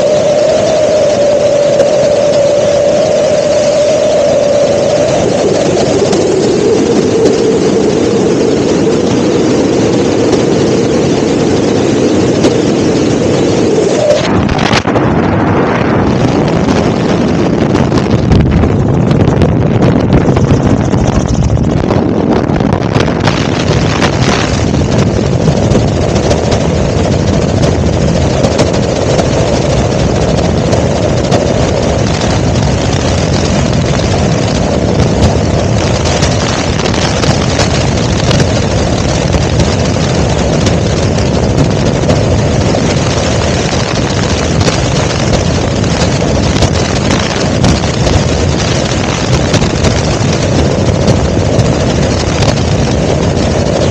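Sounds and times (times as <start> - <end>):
helicopter engine and rotor noise: 0.0 - 53.9.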